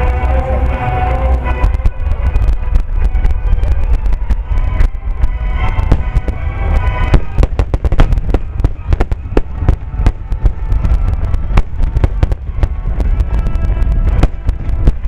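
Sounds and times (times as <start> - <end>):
fireworks bangs: 0.0 - 15.0
low fireworks rumble: 0.0 - 15.0.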